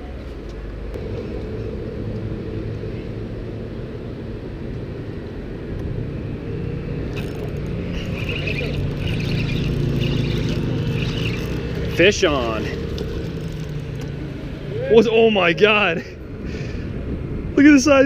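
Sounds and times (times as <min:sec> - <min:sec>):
low engine drone: 0:00.0 - 0:17.6.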